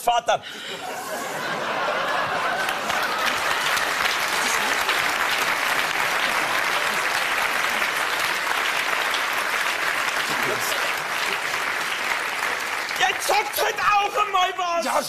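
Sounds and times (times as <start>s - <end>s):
audience applauding: 1.3s - 14.8s.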